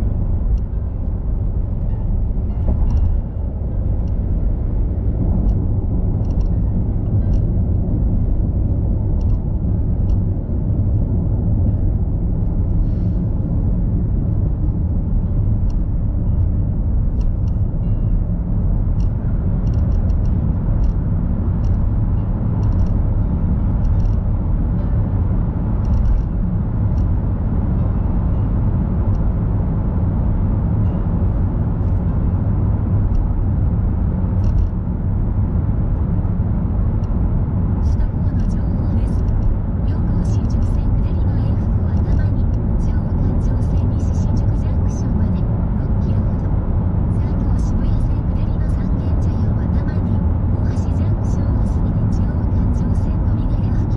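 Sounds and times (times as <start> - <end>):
car tyre and engine rumble: 0.0 - 53.9.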